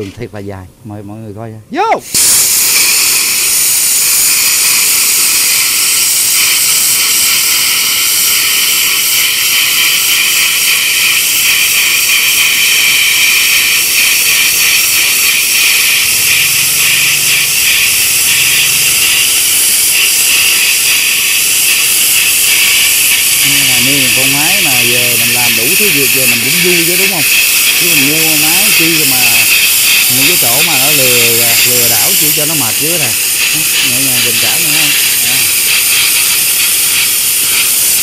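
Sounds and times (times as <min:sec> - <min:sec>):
plasma torch hissing: 0:01.9 - 0:38.0.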